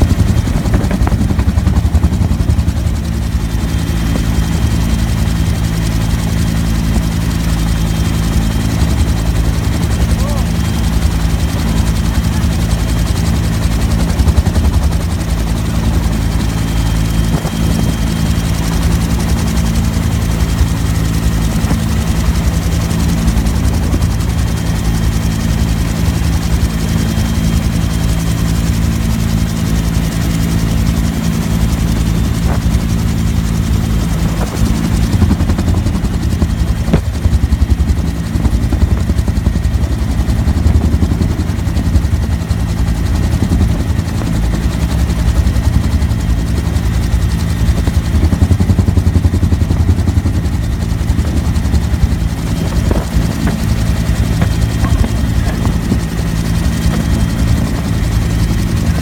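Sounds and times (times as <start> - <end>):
helicopter rotor beat: 0.0 - 59.0
turbine engine drone: 0.0 - 59.0.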